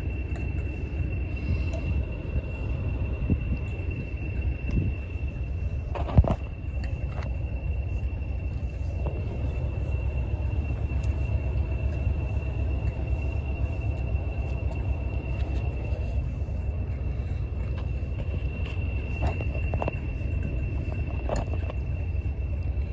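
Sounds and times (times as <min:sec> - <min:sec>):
high-pitched whine: 0:00.0 - 0:22.9
locomotive engine idling: 0:00.0 - 0:22.9.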